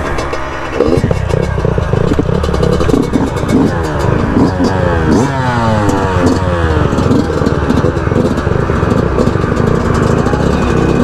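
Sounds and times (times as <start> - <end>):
dirt bike engines accelerating: 0.0 - 11.0.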